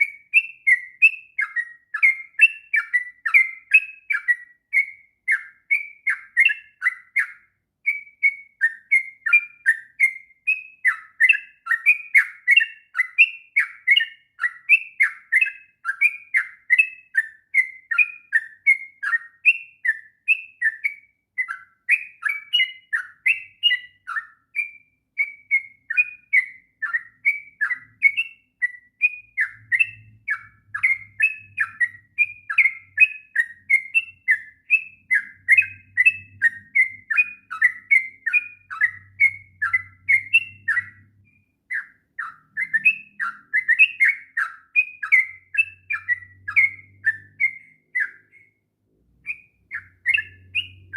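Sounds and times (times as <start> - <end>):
bird singing chattering phrases: 0.0 - 41.0, 49.3 - 50.9.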